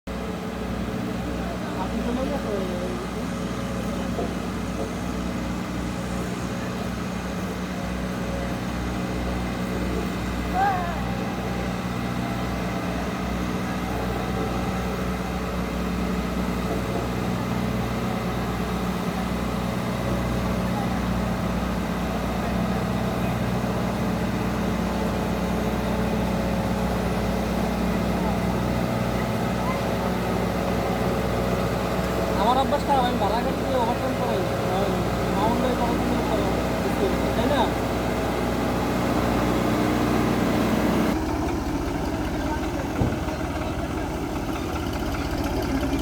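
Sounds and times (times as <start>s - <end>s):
road roller engine humming: 0.0s - 46.0s.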